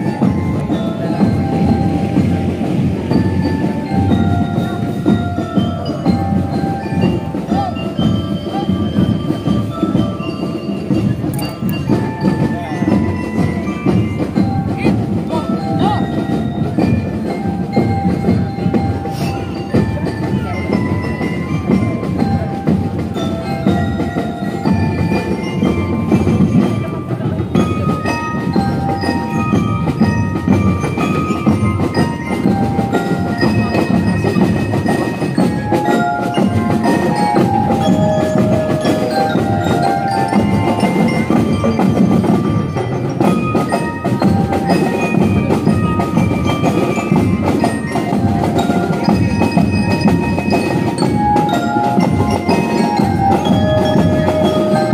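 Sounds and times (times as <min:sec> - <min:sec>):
bell-lyre melody: 0:00.0 - 0:54.9
marching drums: 0:00.0 - 0:54.9.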